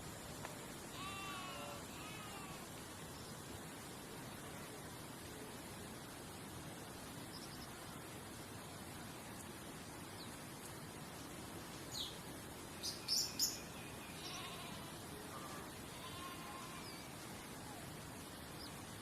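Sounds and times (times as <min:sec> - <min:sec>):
wild birds chirping: 0:00.6 - 0:05.0, 0:06.8 - 0:08.4, 0:09.3 - 0:19.0.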